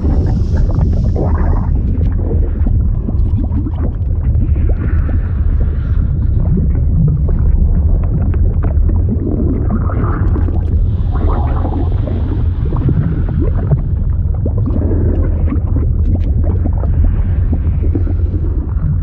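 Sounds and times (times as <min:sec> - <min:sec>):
deep rumble: 0:00.0 - 0:19.0
liquid bubbling and gurgling: 0:00.0 - 0:19.0.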